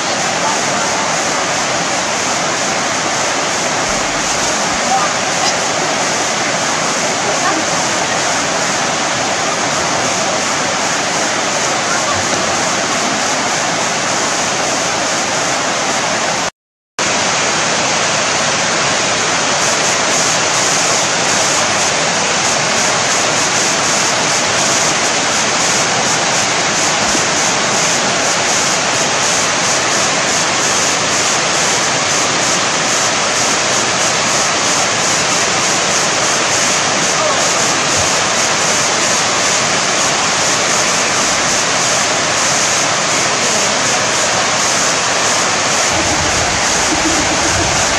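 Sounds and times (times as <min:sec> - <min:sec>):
water rushing over a weir: 0:00.0 - 0:47.9.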